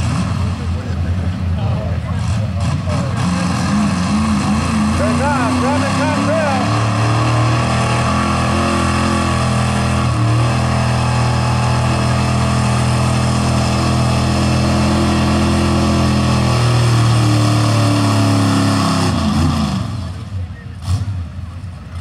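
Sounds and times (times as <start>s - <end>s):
truck engine at high revs: 0.0s - 22.0s.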